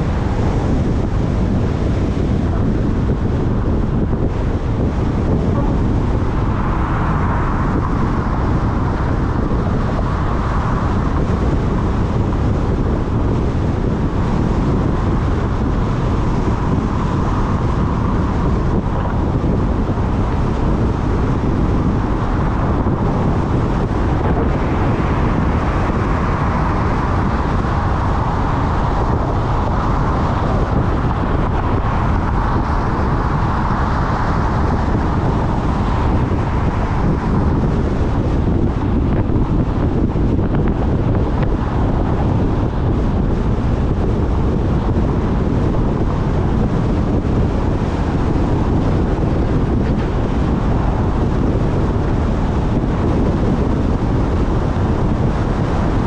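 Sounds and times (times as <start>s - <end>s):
road and tyre noise: 0.0s - 56.0s
wind rushing past microphone: 0.0s - 56.0s.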